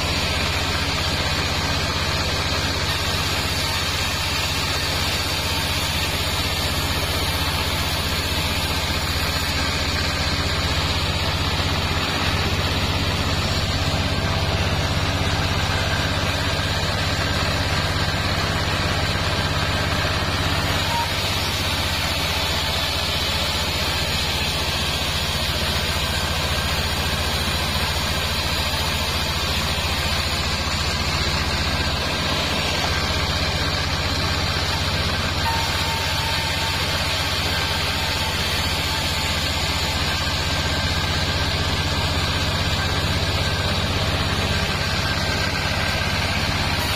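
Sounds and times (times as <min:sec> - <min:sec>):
band saw humming: 0:00.0 - 0:46.9.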